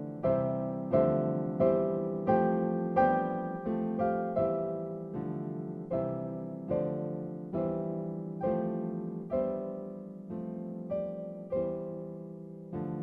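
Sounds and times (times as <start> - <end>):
slow gentle piano chords: 0.0 - 13.0.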